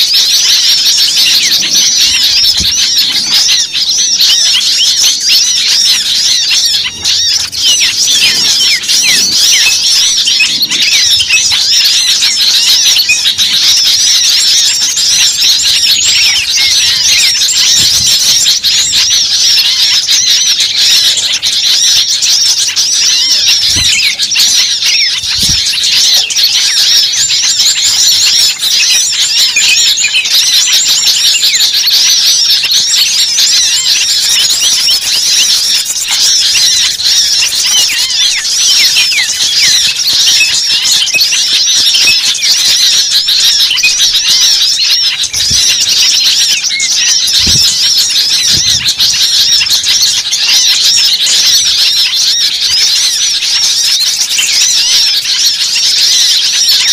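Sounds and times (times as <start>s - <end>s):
chorus of birds chirping: 0.0s - 56.9s.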